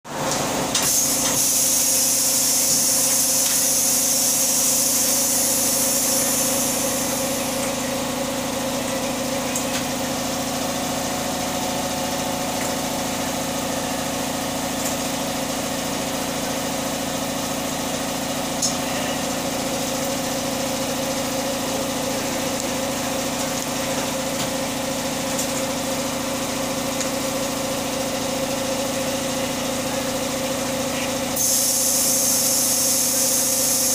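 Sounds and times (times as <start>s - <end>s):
machine humming: 0.1s - 33.9s.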